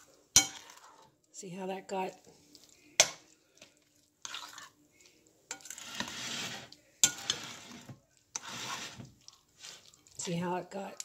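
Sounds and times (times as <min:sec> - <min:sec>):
spoon stirring beans: 0:00.0 - 0:11.0.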